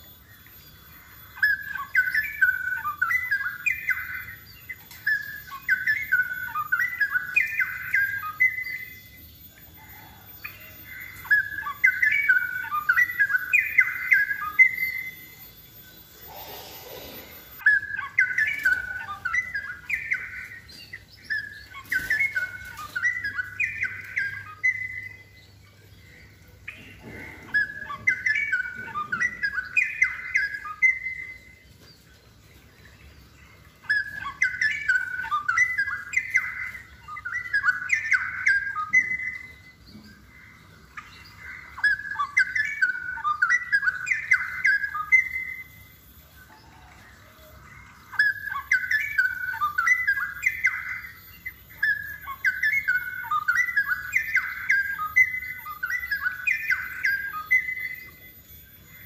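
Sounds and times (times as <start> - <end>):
bird singing warbled phrases: 0.0 - 59.0.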